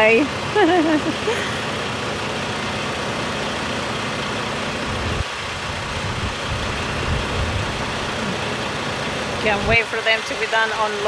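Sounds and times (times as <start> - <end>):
heavy vehicle engine idling: 0.0 - 11.0.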